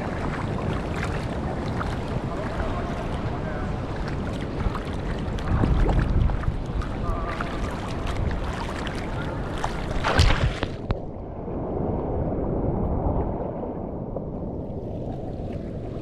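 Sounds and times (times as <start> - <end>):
surf and whitewater splashing: 0.0 - 14.0
wind buffeting microphone: 0.0 - 16.0.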